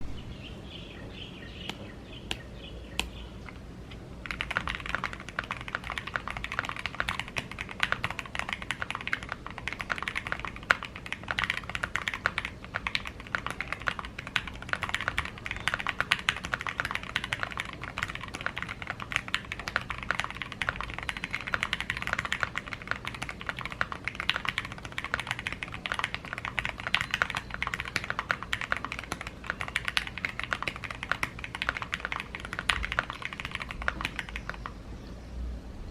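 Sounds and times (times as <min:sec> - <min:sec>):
mechanical keyboard typing: 0:04.2 - 0:34.7.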